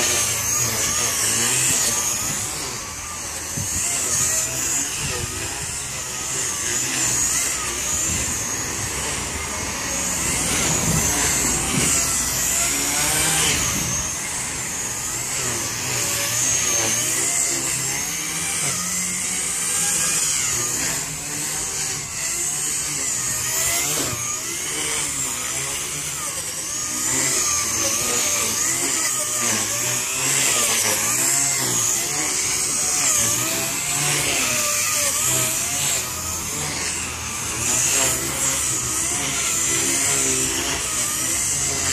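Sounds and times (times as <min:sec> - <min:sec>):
rc helicopter motor whine: 0:00.0 - 0:41.9.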